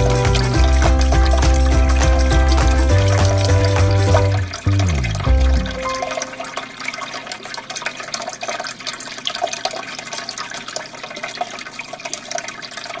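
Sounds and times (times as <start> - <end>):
aquarium water flowing and splashing: 0.0 - 13.0.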